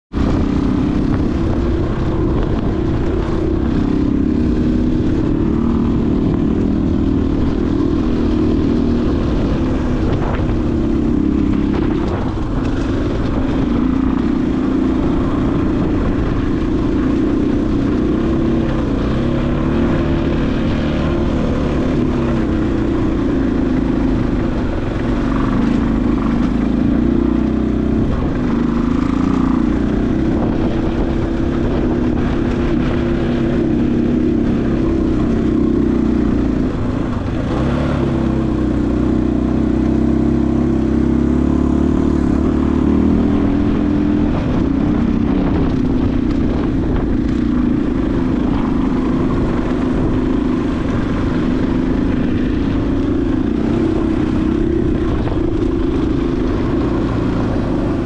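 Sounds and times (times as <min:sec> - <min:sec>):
low rumble: 0:00.1 - 0:58.0
vehicle engine running: 0:00.1 - 0:58.0.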